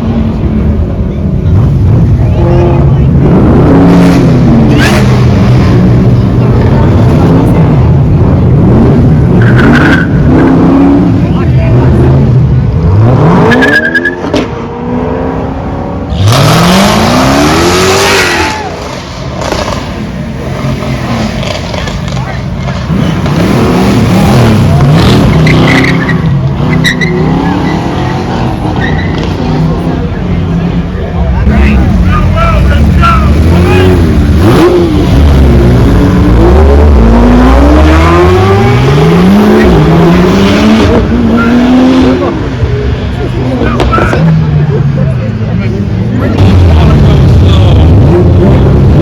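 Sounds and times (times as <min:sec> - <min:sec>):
car engine accelerating hard: 0:00.0 - 0:49.0.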